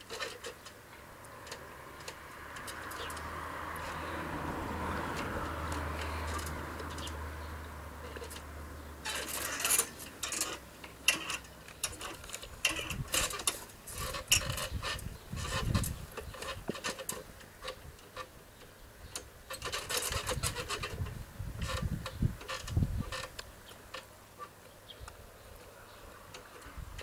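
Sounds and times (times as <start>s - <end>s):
handling clicks and rustles: 0.0s - 27.0s.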